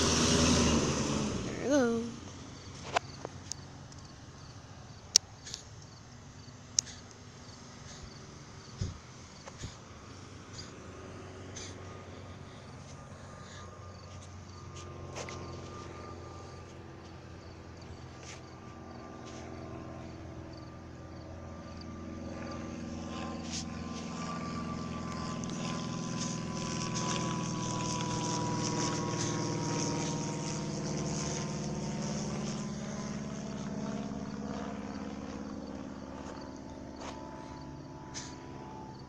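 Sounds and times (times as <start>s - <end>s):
engine drone: 0.0s - 39.0s.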